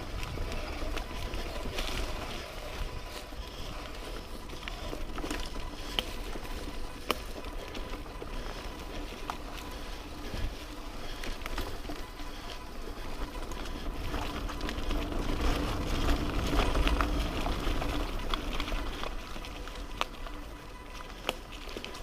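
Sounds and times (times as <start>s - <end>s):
bike rumbling over dirt trail: 0.0s - 22.0s.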